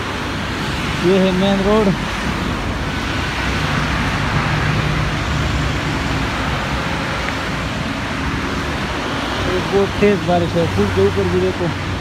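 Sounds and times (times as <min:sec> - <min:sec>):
traffic on wet road: 0:00.0 - 0:12.0.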